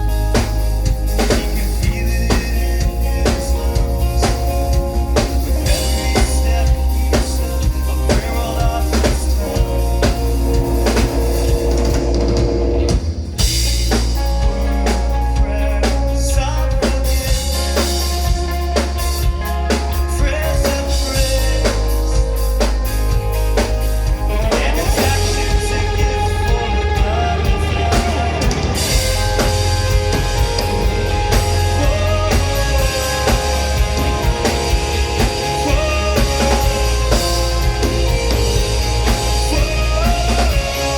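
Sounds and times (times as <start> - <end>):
drum kit beating: 0.0 - 40.9
guitar and bass: 0.0 - 40.9.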